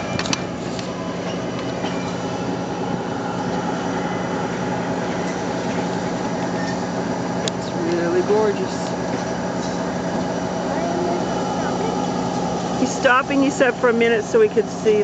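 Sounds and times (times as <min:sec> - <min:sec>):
train car rolling along rails: 0:00.0 - 0:15.0.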